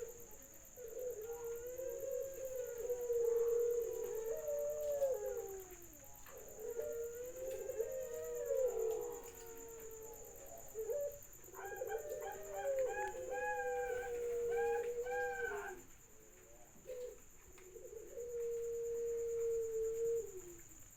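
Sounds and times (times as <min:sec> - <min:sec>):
doves cooing: 0:00.0 - 0:20.9.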